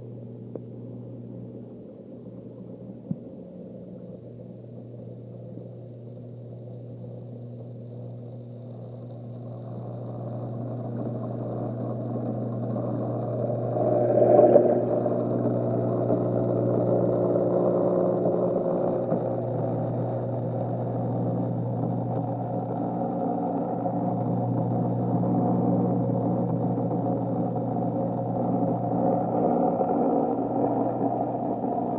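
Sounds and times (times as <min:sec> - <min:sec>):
pump hum: 0:00.0 - 0:31.9.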